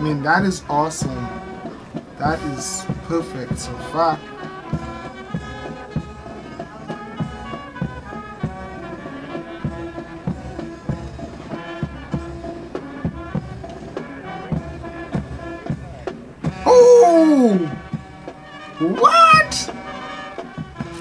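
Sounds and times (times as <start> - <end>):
brass band music: 0.0 - 21.0.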